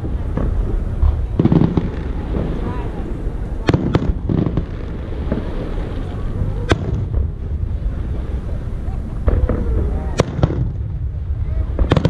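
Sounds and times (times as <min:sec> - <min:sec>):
fireworks bursting with cracks: 0:00.0 - 0:12.0
steady low rumble: 0:00.0 - 0:12.0.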